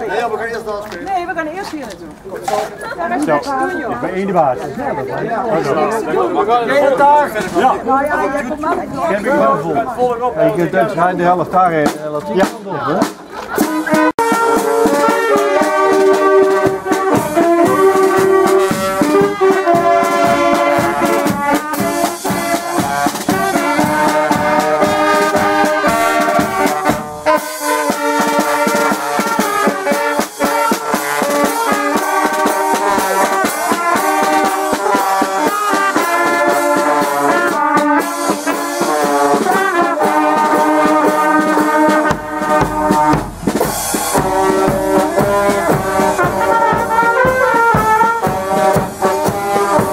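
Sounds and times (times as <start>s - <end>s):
brass band playing: 2.4s - 49.9s.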